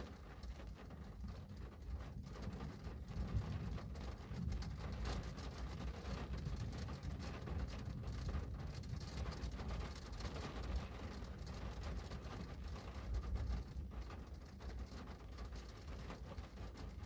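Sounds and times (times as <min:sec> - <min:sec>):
continuous low rumble: 0:00.0 - 0:17.0
rain pattering on window glass: 0:00.0 - 0:17.0.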